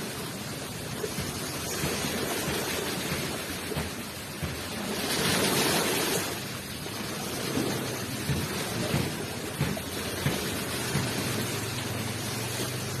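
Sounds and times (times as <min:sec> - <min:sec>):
ocean waves on shore: 0:00.0 - 0:13.0.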